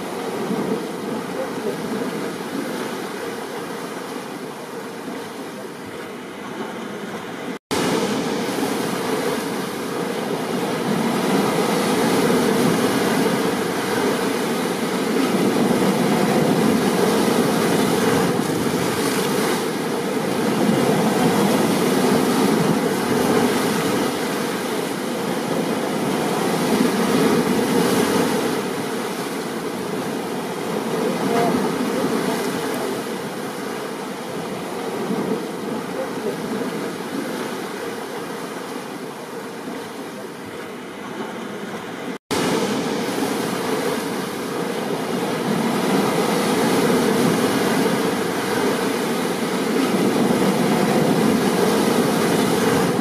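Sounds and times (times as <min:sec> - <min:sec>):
stormy ocean surf: 0:00.0 - 0:53.0.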